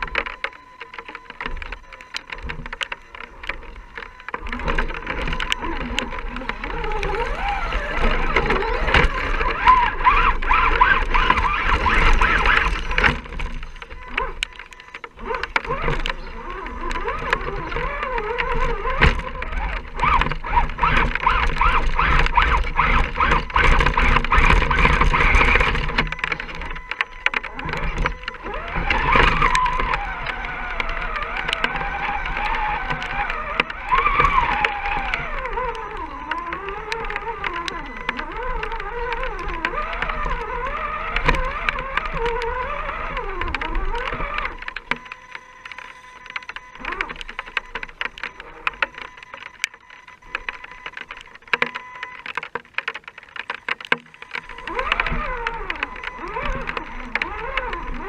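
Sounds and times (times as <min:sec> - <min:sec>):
toy truck motor whining: 0:00.0 - 0:58.0.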